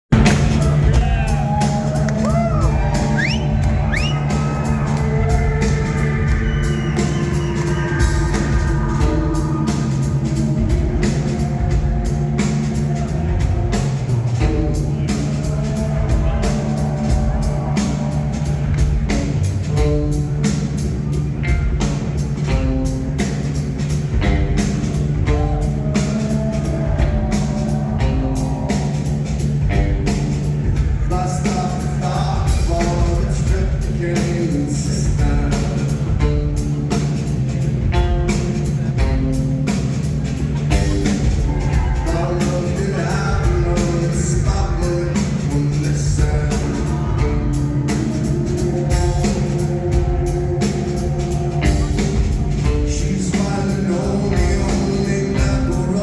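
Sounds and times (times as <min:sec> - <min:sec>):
deep bass line: 0:00.0 - 0:56.0
drum kit beat: 0:00.1 - 0:56.0
live rock band playing: 0:00.1 - 0:56.0.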